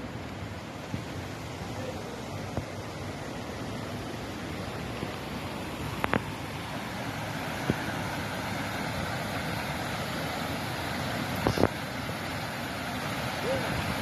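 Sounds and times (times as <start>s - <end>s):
floodwater rushing down steps: 0.0s - 14.0s.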